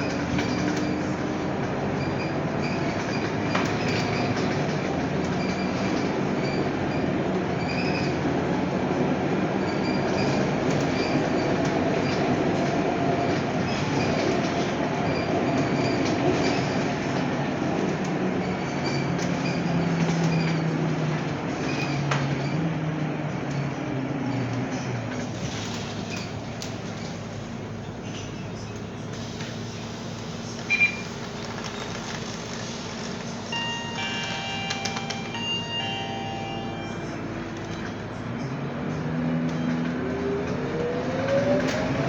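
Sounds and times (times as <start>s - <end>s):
bus diesel engine rumble: 0.0s - 42.0s.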